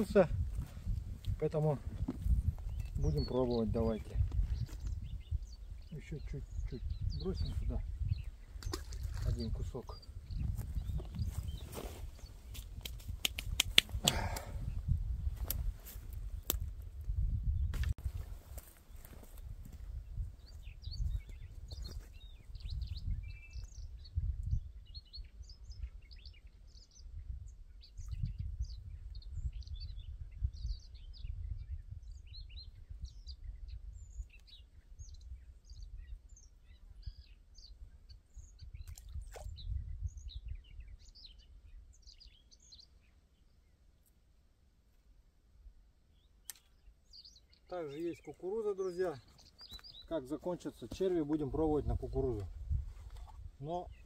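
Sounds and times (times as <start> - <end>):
wind buffeting microphone: 0.0 - 42.3, 49.1 - 54.0
small birds chirping: 0.0 - 44.3, 46.1 - 54.0.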